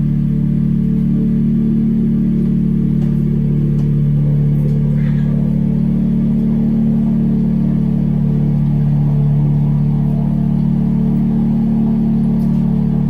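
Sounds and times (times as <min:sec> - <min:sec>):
loud low noise drone: 0:00.0 - 0:13.0.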